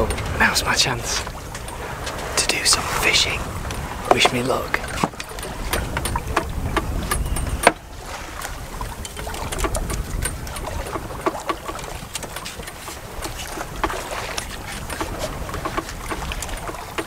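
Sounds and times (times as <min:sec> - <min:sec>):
fishing line clicks and knocks: 0:00.0 - 0:17.0
water rushing past boat: 0:00.0 - 0:17.0
wind rumbling on microphone: 0:00.0 - 0:17.0.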